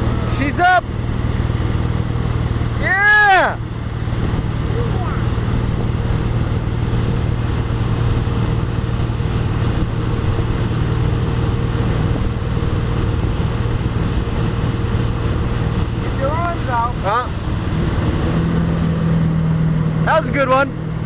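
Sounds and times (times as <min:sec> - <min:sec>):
motorboat engine running: 0:00.0 - 0:21.0
rushing water from wake: 0:00.0 - 0:21.0
wind: 0:00.0 - 0:21.0.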